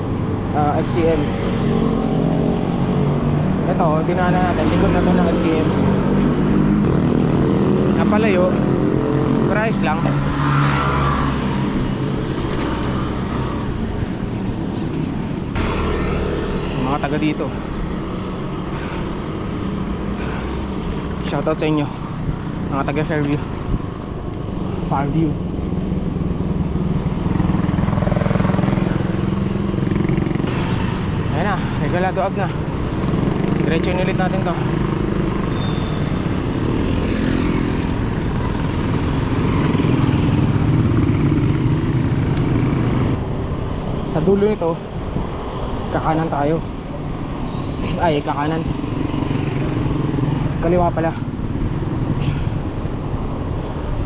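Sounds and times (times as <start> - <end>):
motor vehicles humming: 0.0 - 54.0
road traffic rushing: 0.0 - 54.0.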